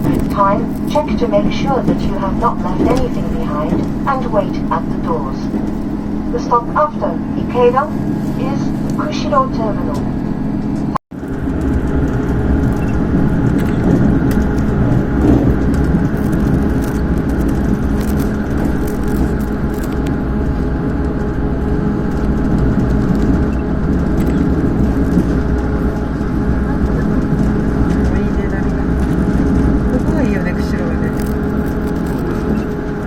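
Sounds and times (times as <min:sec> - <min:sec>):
diesel engine drone: 0:00.0 - 0:33.0
wheels rumbling on rail: 0:00.0 - 0:33.0.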